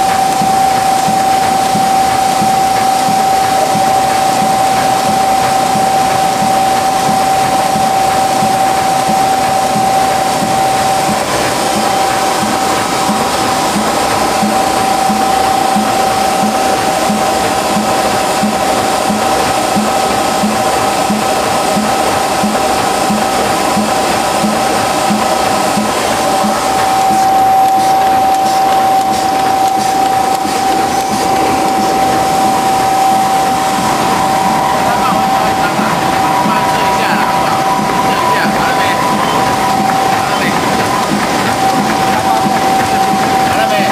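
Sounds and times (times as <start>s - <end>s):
machine whine and rushing: 0.0s - 43.9s.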